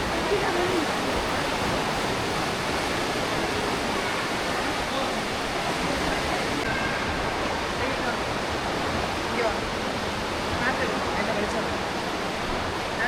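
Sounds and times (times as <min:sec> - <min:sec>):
river rushing through gorge: 0:00.0 - 0:13.0.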